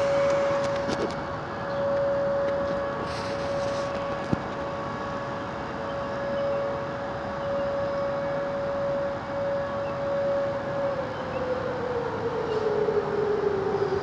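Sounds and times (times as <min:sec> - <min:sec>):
gusting storm wind: 0:00.0 - 0:14.0
tornado warning siren: 0:00.0 - 0:14.0.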